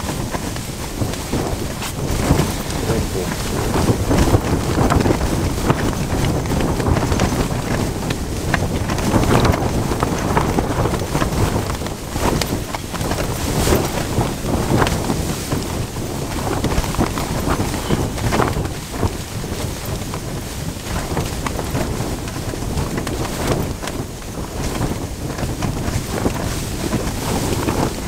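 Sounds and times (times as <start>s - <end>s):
storm wind rushing: 0.0s - 28.0s
tent fabric flapping: 0.0s - 28.0s.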